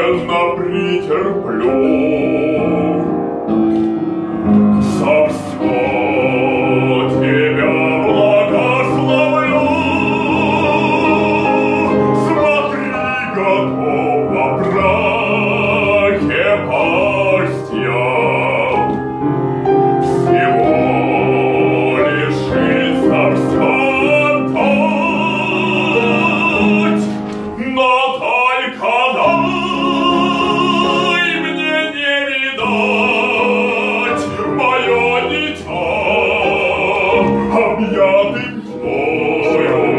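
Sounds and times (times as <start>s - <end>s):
instrumental accompaniment: 0.0s - 39.9s
operatic singing: 0.0s - 39.9s.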